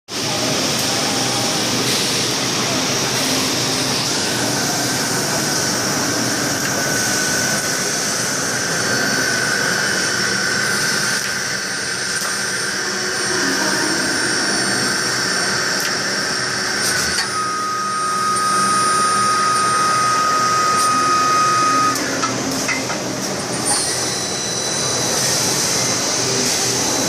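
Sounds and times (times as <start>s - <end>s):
lathe machining with high whines: 0.1s - 27.0s
mechanical hum: 0.1s - 27.0s
strong single-pitched whine: 0.1s - 27.0s.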